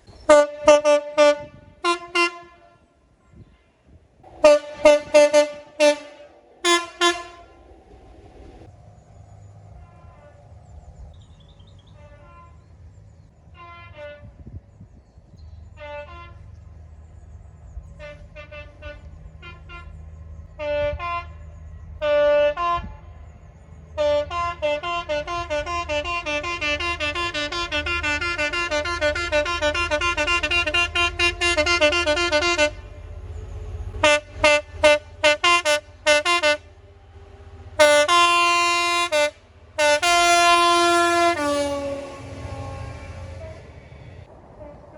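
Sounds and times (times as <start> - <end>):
train two-tone horn: 0.1 - 8.0, 9.6 - 10.7, 11.8 - 12.8, 13.4 - 14.8, 15.6 - 16.7, 17.9 - 44.9
low steady rumble: 0.4 - 44.9.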